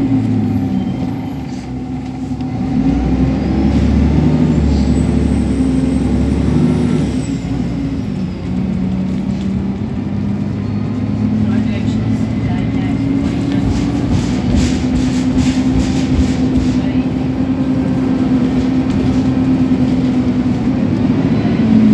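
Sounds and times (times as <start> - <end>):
bus diesel engine: 0.0 - 21.9.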